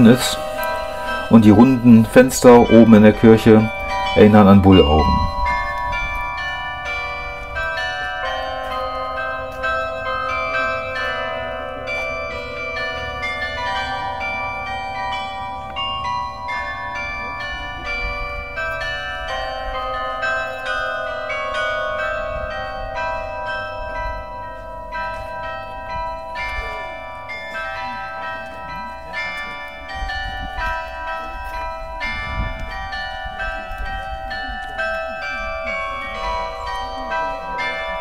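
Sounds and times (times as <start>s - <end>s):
tower bell notes ringing: 0.0s - 38.0s.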